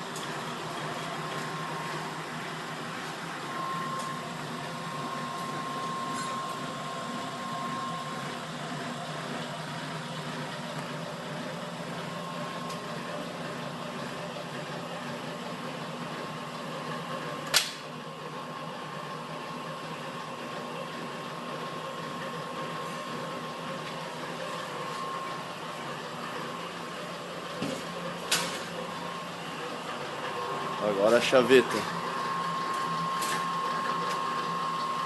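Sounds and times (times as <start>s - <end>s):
machine motor hum: 0.0s - 35.0s.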